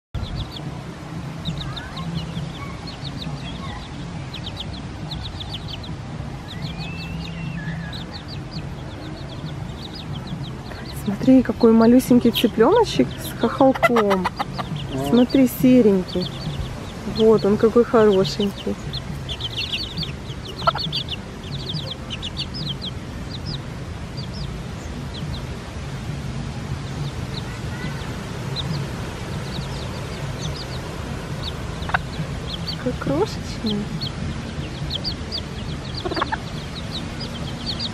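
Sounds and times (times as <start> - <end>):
chickens clucking: 1.3 - 25.6, 26.8 - 37.9.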